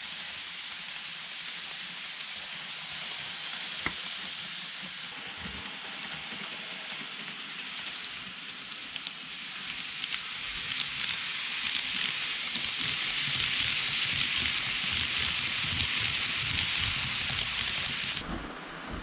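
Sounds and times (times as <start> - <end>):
model train rolling on track: 0.0 - 19.0
wheels clicking on rails: 0.0 - 19.0.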